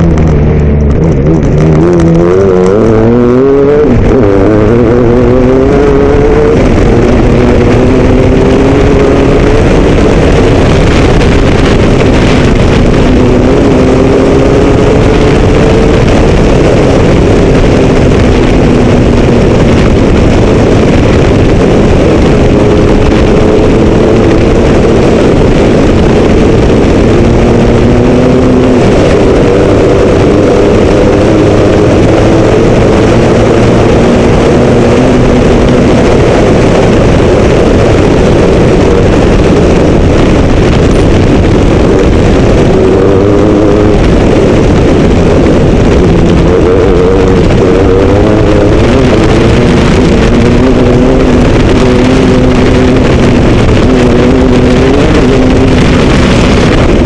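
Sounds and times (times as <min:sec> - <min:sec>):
car engine running hard: 0:00.0 - 0:57.0
wind and tyre noise: 0:00.0 - 0:57.0.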